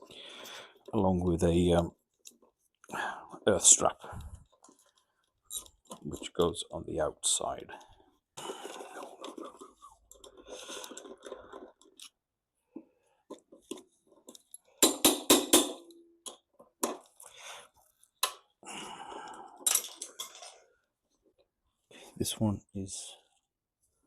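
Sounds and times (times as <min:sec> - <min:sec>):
rustling and handling noise: 0:00.0 - 0:14.8, 0:16.2 - 0:22.4.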